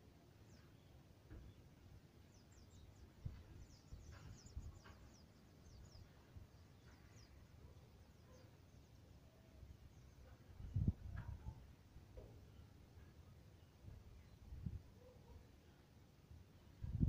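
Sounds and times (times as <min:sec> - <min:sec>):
faint high bird chirps: 0:00.4 - 0:15.9.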